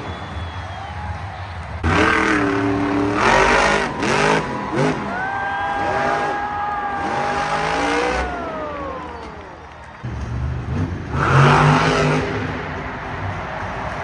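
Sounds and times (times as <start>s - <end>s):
truck engine revving: 1.6s - 13.9s.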